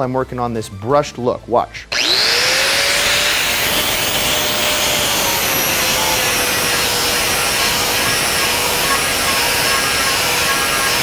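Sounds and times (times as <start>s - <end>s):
angle grinder grinding steel: 1.9s - 11.0s.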